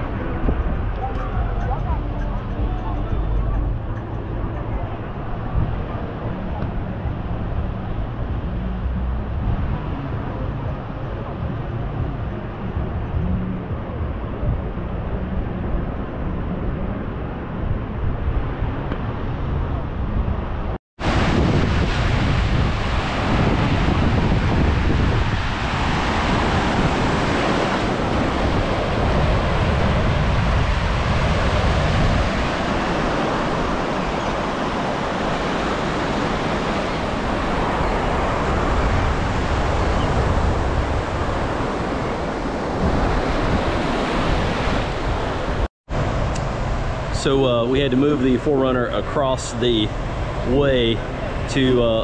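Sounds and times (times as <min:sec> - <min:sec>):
surf washing on beach: 0:00.0 - 0:52.0
wind buffeting microphone: 0:00.0 - 0:52.0.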